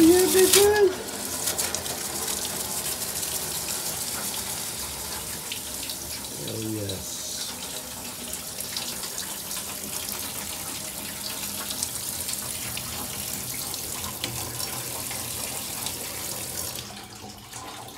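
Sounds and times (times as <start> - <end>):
water splashing into sink: 0.0 - 17.9.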